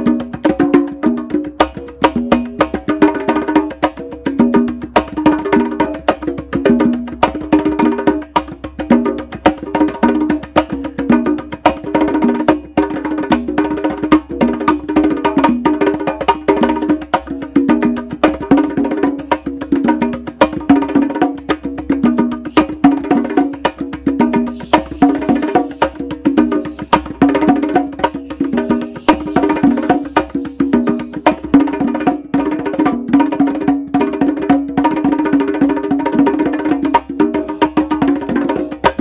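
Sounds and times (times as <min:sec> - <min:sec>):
congas played by hand: 0:00.0 - 0:39.0.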